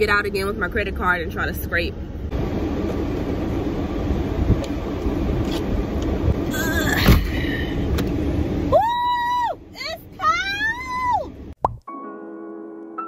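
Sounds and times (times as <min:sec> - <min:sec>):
defroster fan blowing: 0:00.0 - 0:11.5.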